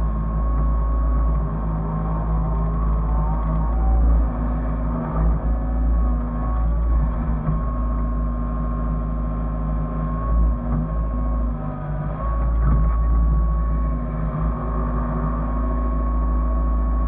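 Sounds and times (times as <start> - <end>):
excavator diesel engine running: 0.0 - 17.0
high hydraulic whine: 0.0 - 17.0.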